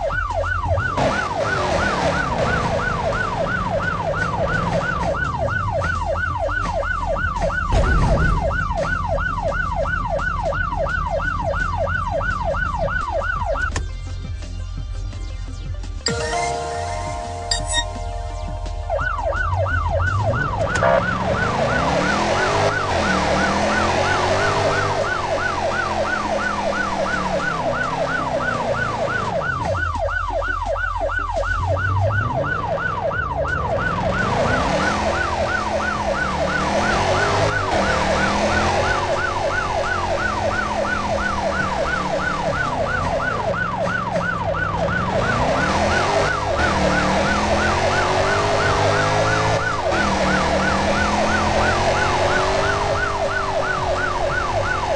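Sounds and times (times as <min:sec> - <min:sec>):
electronic siren yelping: 0:00.0 - 0:13.8, 0:16.1 - 0:54.9.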